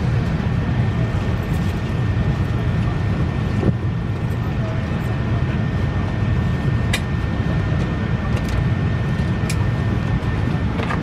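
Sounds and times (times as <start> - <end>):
air-conditioning rumble: 0.0 - 11.0.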